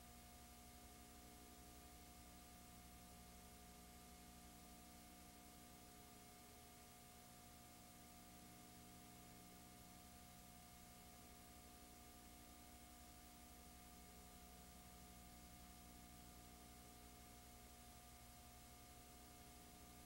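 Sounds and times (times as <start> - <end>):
faint hum and hiss: 0.0 - 20.0.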